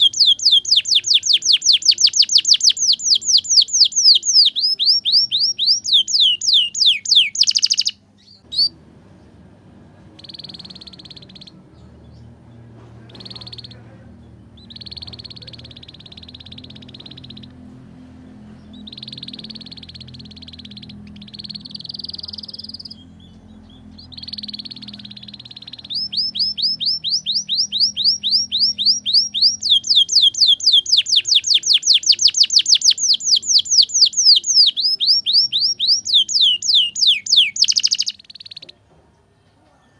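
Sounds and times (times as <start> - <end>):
canary singing trills: 0.0 - 8.8, 10.0 - 38.9.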